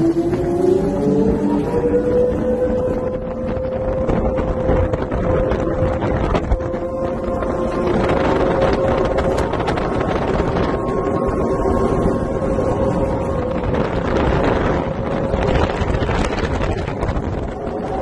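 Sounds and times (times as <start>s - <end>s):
speedboat engine running: 0.0s - 18.0s
wind buffeting microphone: 0.0s - 18.0s.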